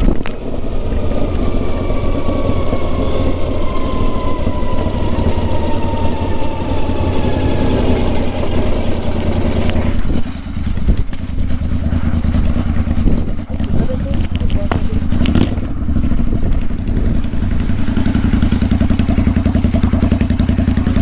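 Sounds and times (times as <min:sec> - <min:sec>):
motorcycle engine running loud: 0:00.0 - 0:21.0.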